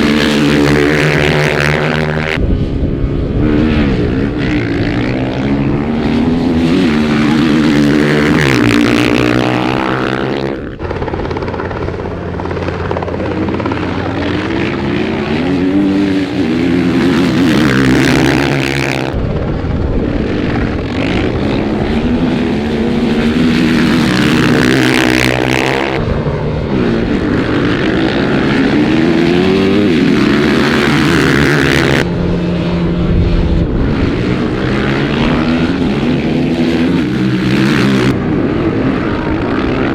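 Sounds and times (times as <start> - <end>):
dirt bike engine revving: 0.0 - 39.9
wind rush: 0.0 - 39.9.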